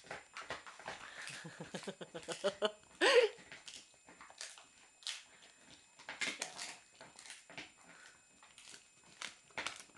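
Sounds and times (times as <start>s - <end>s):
dog crunching a chew: 0.0s - 9.9s.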